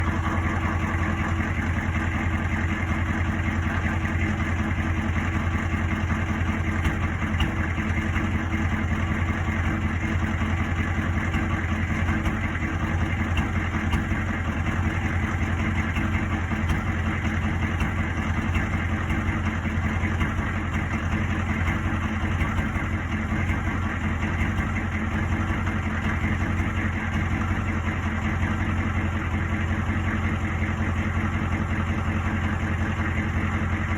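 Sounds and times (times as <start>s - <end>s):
truck engine idling with misfire: 0.0s - 33.9s.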